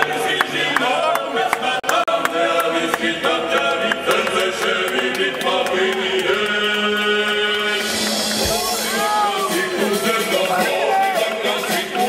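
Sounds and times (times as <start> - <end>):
voices singing a choral chant: 0.0 - 12.0.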